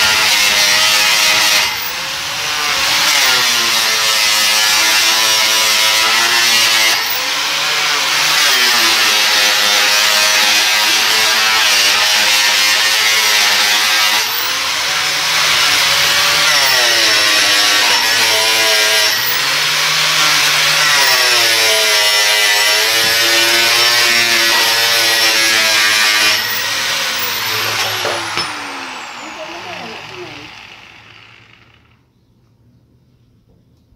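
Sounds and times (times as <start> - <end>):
angle grinder on metal: 0.0 - 32.1.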